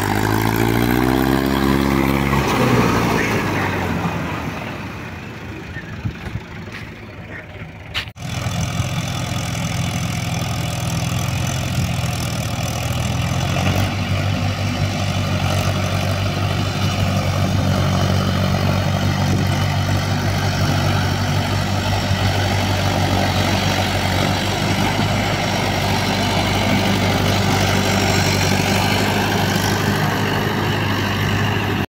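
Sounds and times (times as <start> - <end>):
tractor diesel engine running: 0.0 - 31.9.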